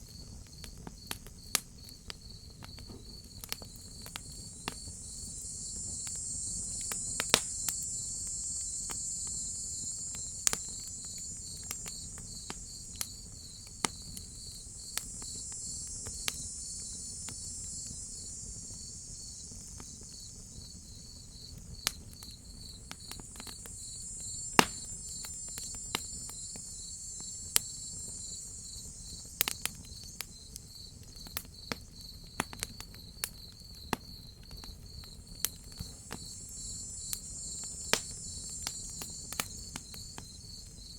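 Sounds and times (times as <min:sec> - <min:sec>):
crickets chirping: 0:00.0 - 0:40.9
wood fire popping and crackling: 0:00.0 - 0:40.9
high insect drone: 0:00.1 - 0:40.9.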